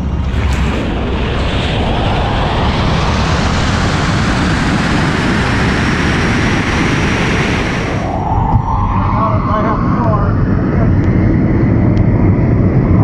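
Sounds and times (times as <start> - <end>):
wind and tyre noise: 0.0 - 13.0.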